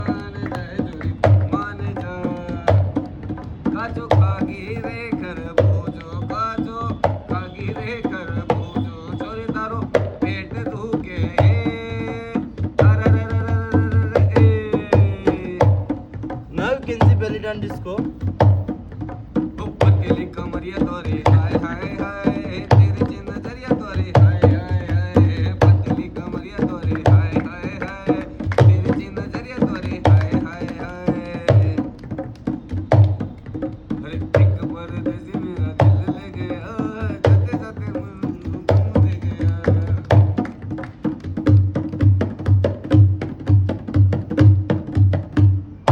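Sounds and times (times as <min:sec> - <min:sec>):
hand drum beating: 0:00.0 - 0:45.9.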